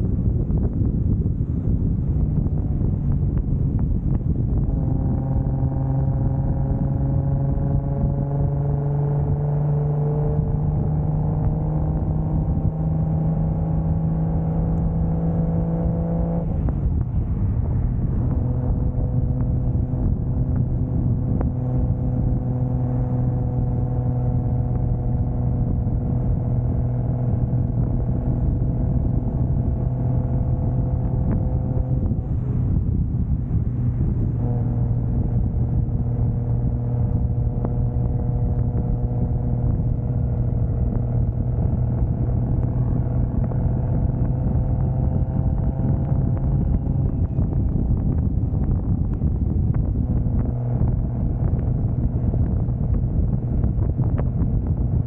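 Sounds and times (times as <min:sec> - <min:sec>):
car engine under way: 0:00.0 - 0:55.0
road and wind noise: 0:00.0 - 0:55.0.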